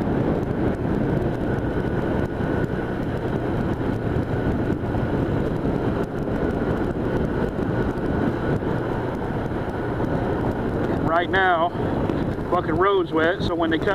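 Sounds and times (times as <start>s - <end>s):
motorcycle engine running: 0.0s - 13.9s
wind rushing over microphone: 0.0s - 13.9s.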